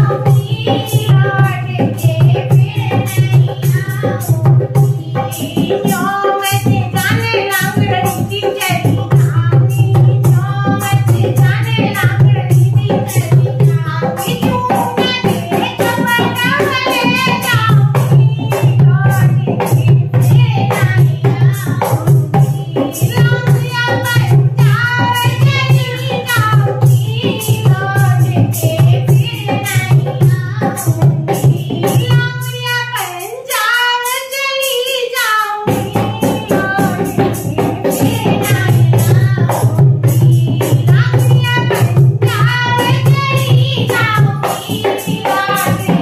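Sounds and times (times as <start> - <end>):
hand drum in quick rhythm: 0.0 - 33.5, 35.6 - 46.0
woman singing folk song: 0.0 - 46.0.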